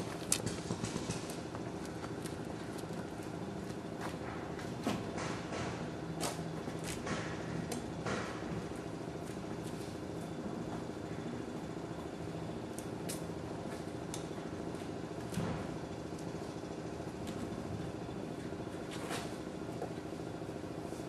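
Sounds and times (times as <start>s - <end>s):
low engine-like hum: 0.0s - 21.0s.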